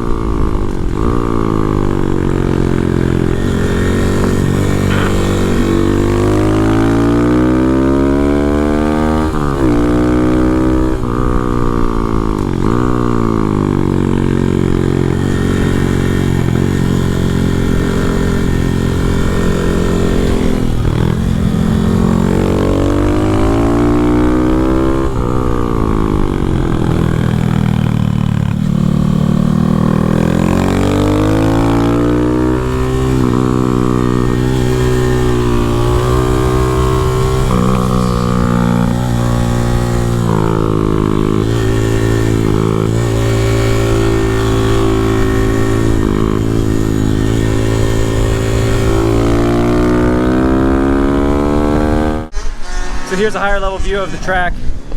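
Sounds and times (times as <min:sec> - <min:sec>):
minibike engine revving: 0:00.0 - 0:54.9.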